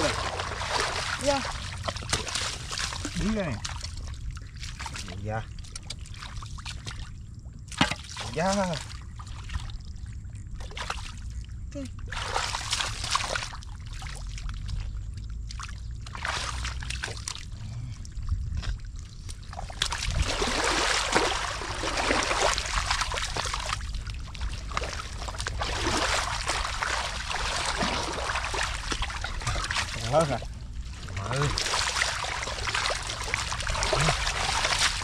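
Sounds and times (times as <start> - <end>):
low rumble: 0.0 - 7.8, 8.9 - 35.0
shallow water splashing: 0.0 - 35.0.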